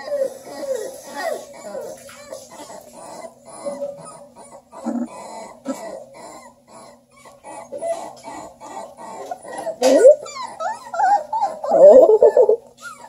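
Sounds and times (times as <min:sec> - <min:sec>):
puppies grunting and squeaking: 0:00.0 - 0:13.0
puppy yelping: 0:00.0 - 0:13.0.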